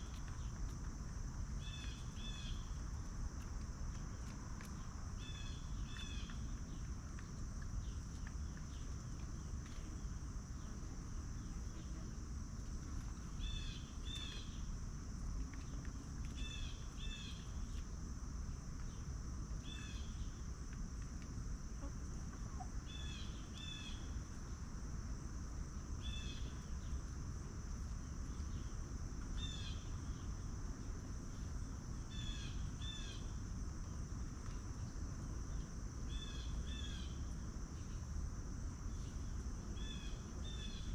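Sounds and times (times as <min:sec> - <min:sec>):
low outdoor rumble: 0:00.0 - 0:40.9.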